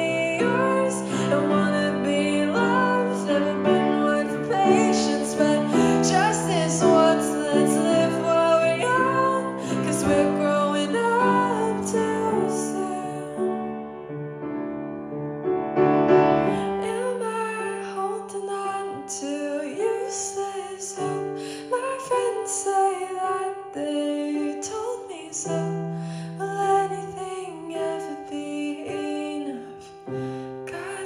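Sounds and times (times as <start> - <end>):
woman singing: 0.0 - 13.7, 16.5 - 31.0
grand piano chords: 0.0 - 31.0.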